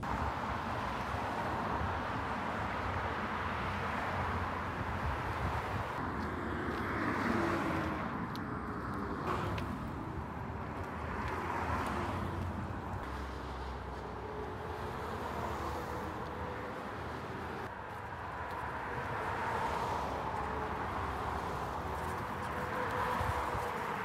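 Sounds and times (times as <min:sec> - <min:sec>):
passing cars: 0:00.0 - 0:24.0.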